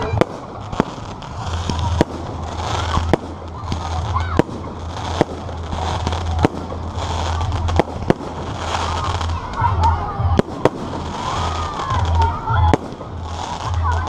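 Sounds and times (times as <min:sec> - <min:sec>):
crowd voices: 0:00.0 - 0:14.0
fireworks banging: 0:00.0 - 0:14.0.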